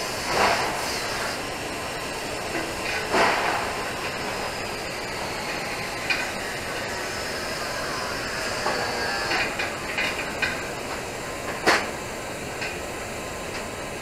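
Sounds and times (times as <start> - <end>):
welding arc hiss: 0.0 - 14.0.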